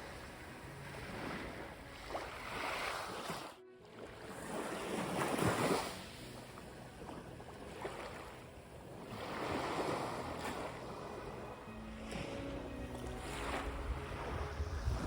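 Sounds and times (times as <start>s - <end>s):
sea waves breaking on a beach: 0.0s - 15.0s.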